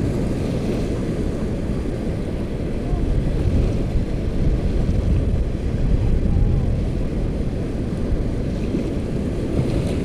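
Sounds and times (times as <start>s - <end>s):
small waves washing onto sand: 0.0s - 10.0s
wind buffeting microphone: 0.0s - 10.0s.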